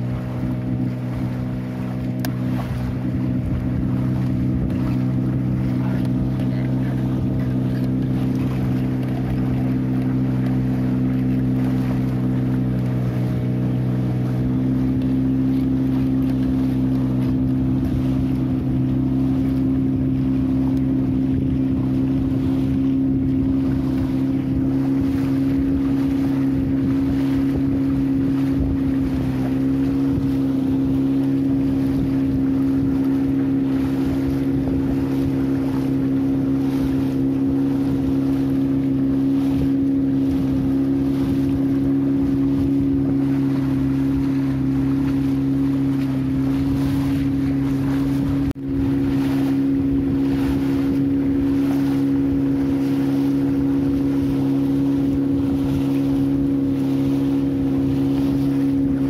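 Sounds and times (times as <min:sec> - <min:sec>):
boat engine running: 0:00.0 - 0:59.0
wind buffeting microphone: 0:00.0 - 0:59.0.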